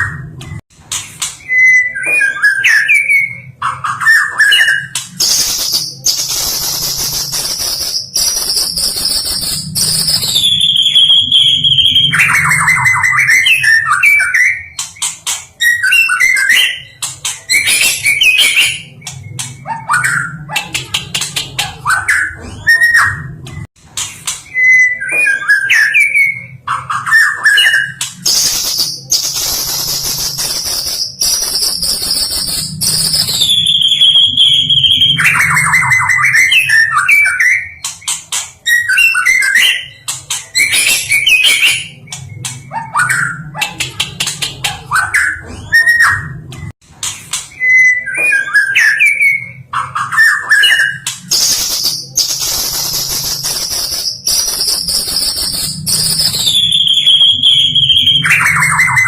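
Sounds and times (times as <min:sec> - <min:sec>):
bird whistled song: 0:01.4 - 0:21.1, 0:24.5 - 0:43.6, 0:47.5 - 0:59.0.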